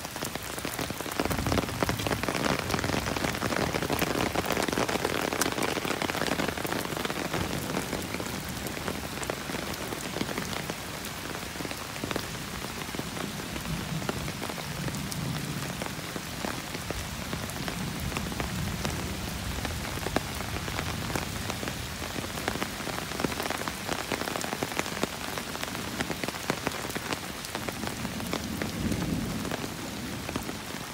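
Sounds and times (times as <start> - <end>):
rain falling on wet ground: 0.0 - 30.9.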